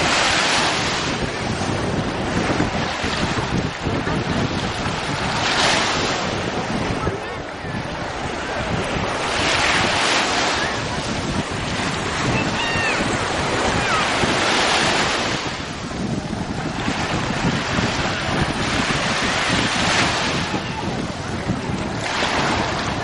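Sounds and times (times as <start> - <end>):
small waves breaking on shore: 0.0 - 23.0.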